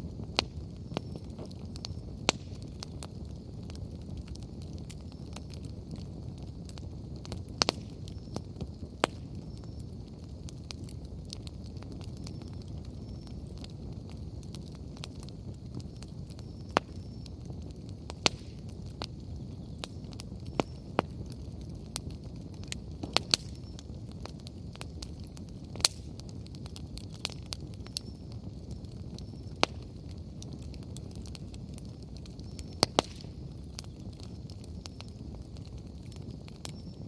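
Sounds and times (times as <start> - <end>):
bonfire flame rushing: 0.0 - 37.0
firewood popping and crackling: 0.0 - 37.0.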